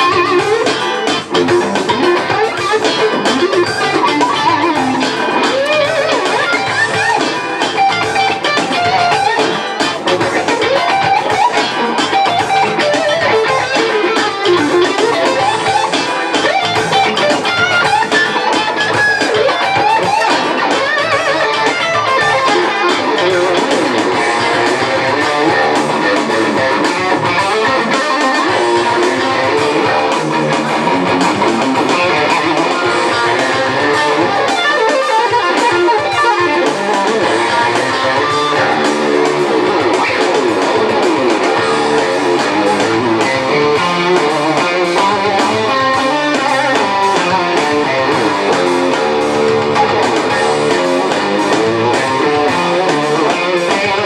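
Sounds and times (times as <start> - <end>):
funk electric guitar: 0.0 - 54.0.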